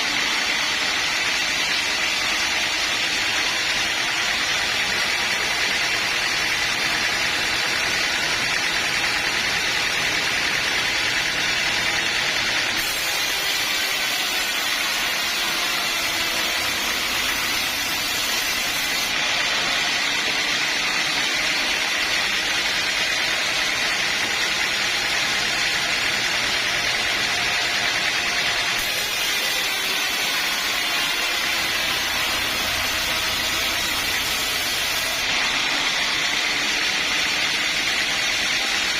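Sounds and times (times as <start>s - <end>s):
sawmill saw running: 0.0s - 38.9s.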